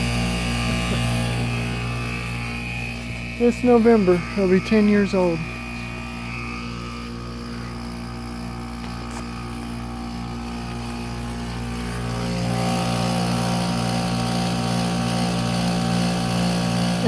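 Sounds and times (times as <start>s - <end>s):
heat pump compressor humming: 0.0s - 17.0s.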